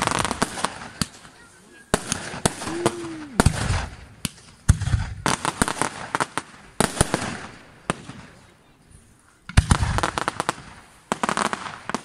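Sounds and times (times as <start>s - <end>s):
aerial fireworks bursting: 0.0s - 8.4s, 9.5s - 12.0s
fireworks crackling: 0.0s - 12.0s.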